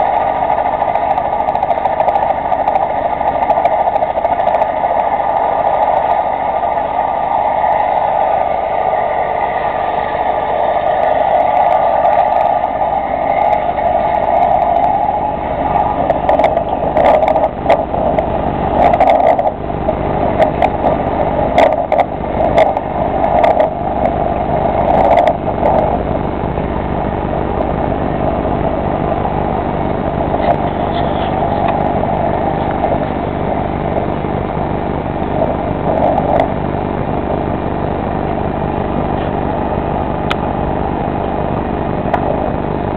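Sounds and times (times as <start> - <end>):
helicopter engine and rotor: 0.0 - 42.6.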